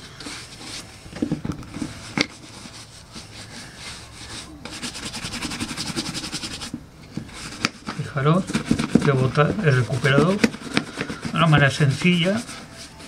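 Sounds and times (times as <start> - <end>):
shoe brush scrubbing leather: 1.9 - 13.0.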